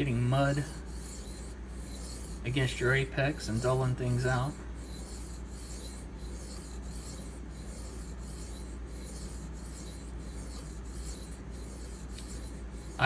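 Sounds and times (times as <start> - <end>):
knife blade scraping on wet sharpening stone: 0.0 - 13.0.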